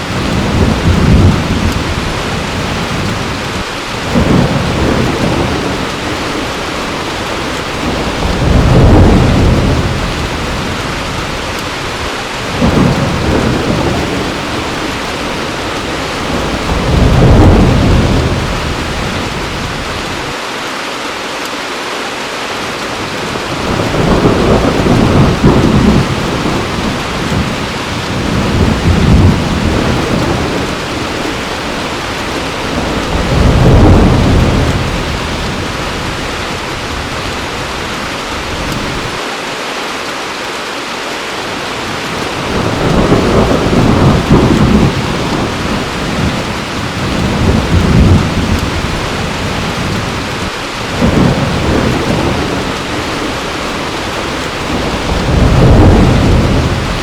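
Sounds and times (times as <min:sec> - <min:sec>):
rolling thunder: 0:00.0 - 0:20.3, 0:23.1 - 0:39.2, 0:41.9 - 0:57.0
heavy rain: 0:00.0 - 0:57.0.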